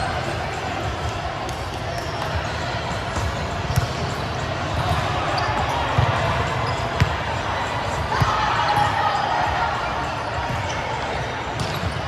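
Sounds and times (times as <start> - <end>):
hubbub of voices: 0.0 - 12.0.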